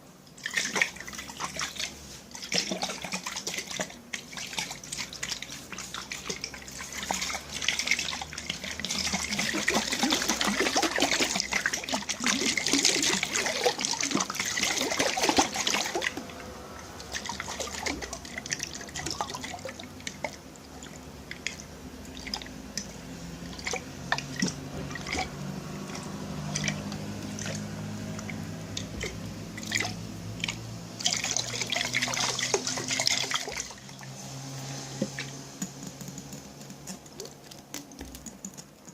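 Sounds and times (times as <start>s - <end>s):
liquid pouring and sloshing: 0.0s - 38.9s
liquid dripping and trickling: 0.2s - 38.9s.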